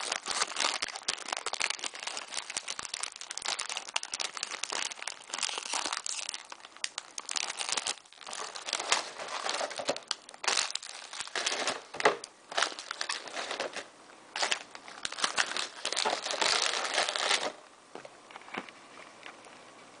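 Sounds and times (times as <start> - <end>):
packaging crinkling and rustling: 0.0 - 17.6.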